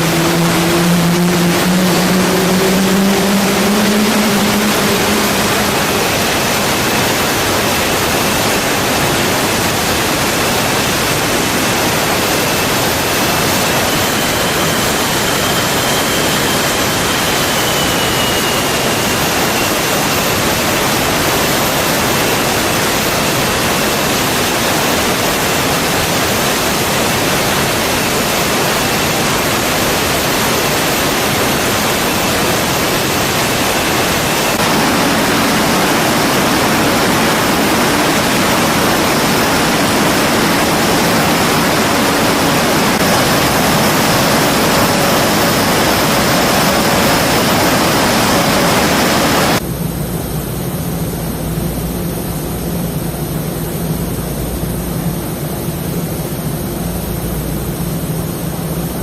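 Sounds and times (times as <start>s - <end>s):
jet engine rushing: 0.0s - 49.7s
high turbine whine: 0.0s - 59.0s
low hum: 0.0s - 59.0s.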